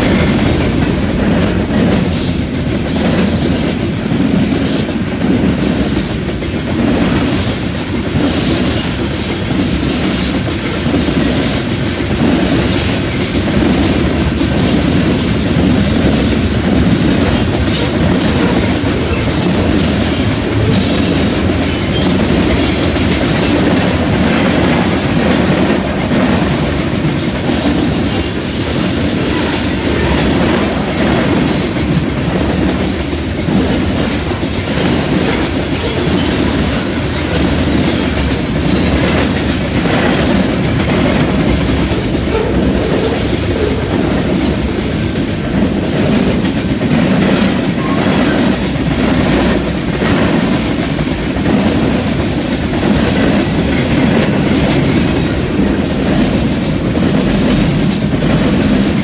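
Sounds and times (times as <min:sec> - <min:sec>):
steel wheels rumbling on rails: 0:00.0 - 0:59.0
wheels clacking over rail joints: 0:00.0 - 0:59.0.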